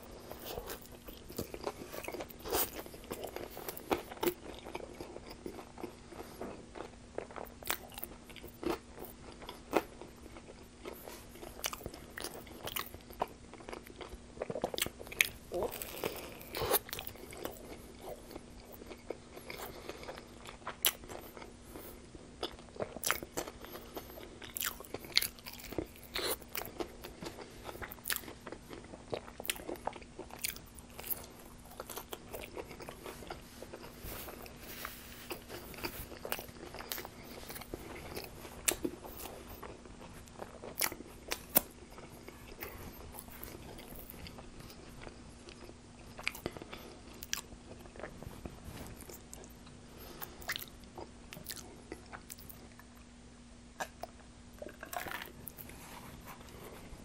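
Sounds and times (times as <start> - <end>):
close chewing with crunches: 0.0 - 53.1, 53.8 - 56.9.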